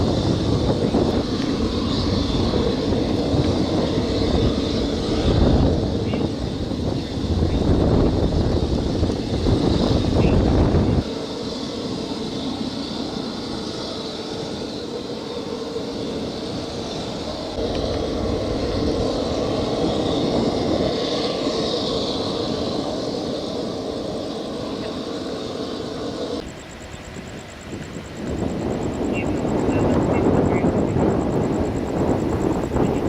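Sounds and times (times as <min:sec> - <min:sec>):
engine drone: 0:00.0 - 0:33.0.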